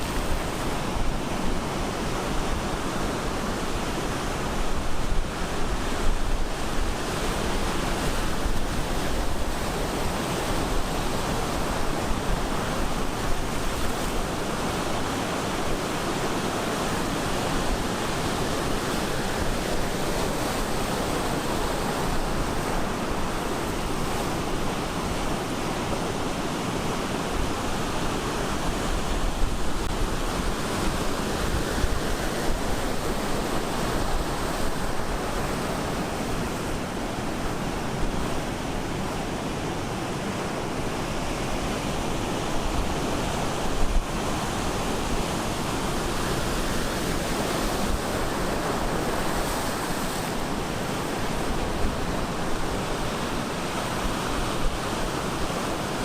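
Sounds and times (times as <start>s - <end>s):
ocean surf breaking on shore: 0.0s - 56.0s.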